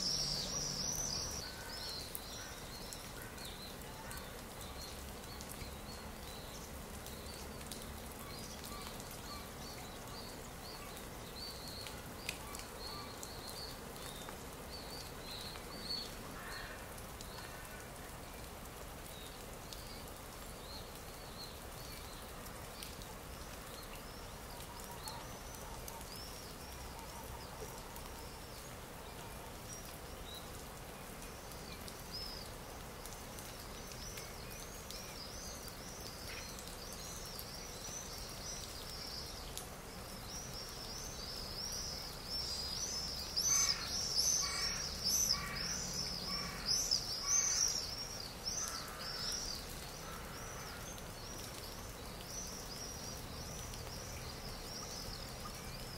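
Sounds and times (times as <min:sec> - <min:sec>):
small birds chirping: 0:00.0 - 0:55.9
steady background hiss: 0:00.0 - 0:55.9.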